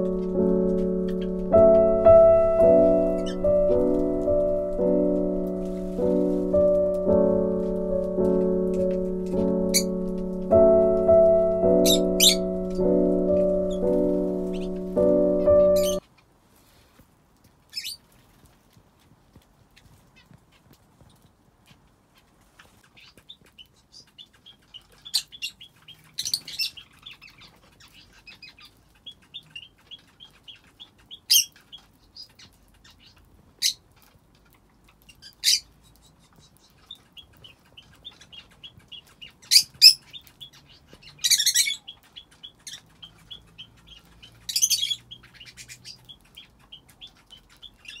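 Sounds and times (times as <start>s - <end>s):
canaries chirping: 0.0s - 16.2s, 17.7s - 18.1s, 22.1s - 48.0s.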